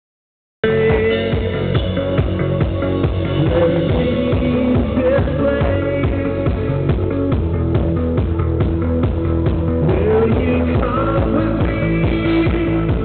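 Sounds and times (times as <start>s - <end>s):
electric guitar: 0.6s - 13.0s
live rock band: 0.6s - 13.0s
steady drum beat: 0.6s - 13.0s.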